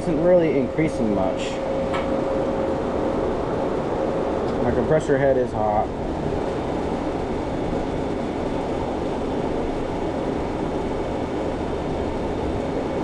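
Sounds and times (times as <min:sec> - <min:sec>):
refrigeration unit humming: 0:00.0 - 0:13.0.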